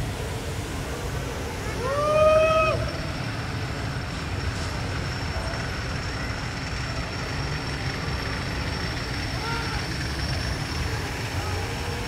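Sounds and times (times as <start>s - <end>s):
high-pitched whine: 0.0s - 12.0s
road traffic rumble: 0.0s - 12.0s.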